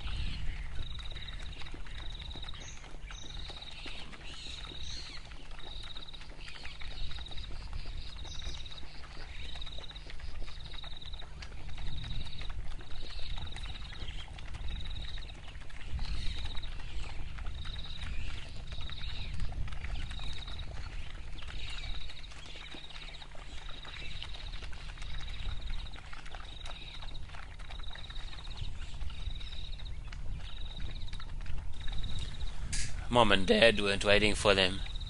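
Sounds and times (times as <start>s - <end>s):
pups lapping water: 0.0s - 35.0s.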